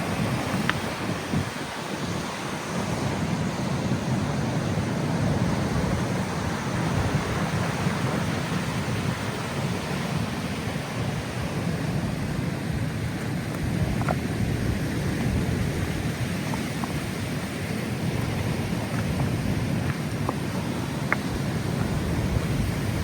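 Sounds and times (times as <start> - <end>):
heavy surf rumbling: 0.0 - 23.0
wind buffeting microphone: 0.0 - 23.0.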